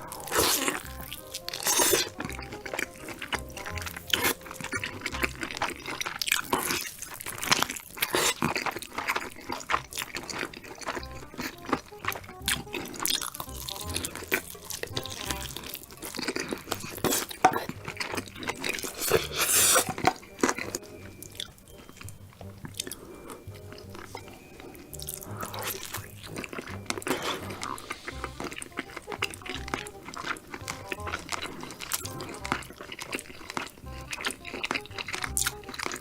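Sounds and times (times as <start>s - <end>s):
crunching and chewing chicken: 0.0s - 36.0s.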